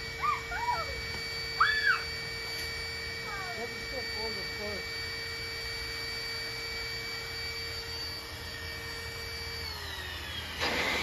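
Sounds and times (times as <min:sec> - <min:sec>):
electric air pump whining: 0:00.0 - 0:11.0.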